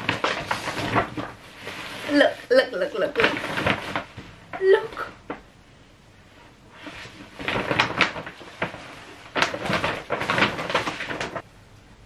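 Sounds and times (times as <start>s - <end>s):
paper gift bag rustling: 0.0s - 5.4s, 6.7s - 11.4s.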